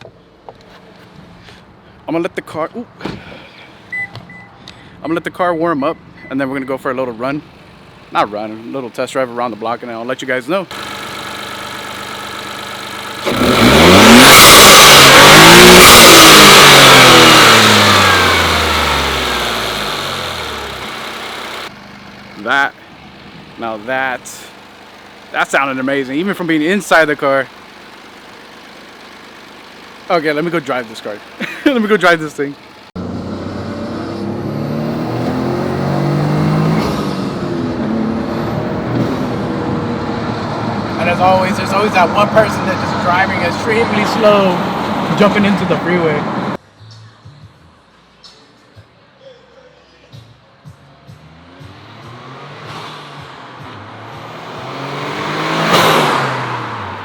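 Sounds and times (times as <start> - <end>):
car engine idling and revving: 6.0 - 49.0, 50.1 - 57.0.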